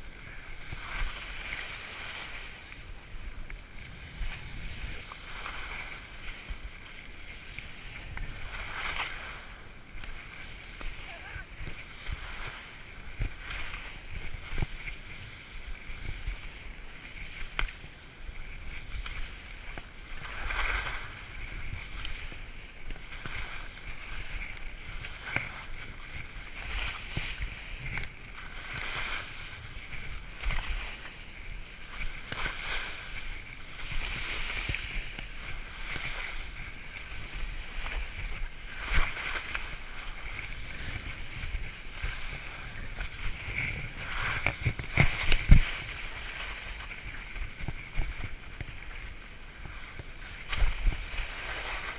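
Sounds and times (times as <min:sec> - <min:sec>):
skis swishing through snow: 0:00.0 - 0:51.9
wind rumble on microphone: 0:00.0 - 0:51.9.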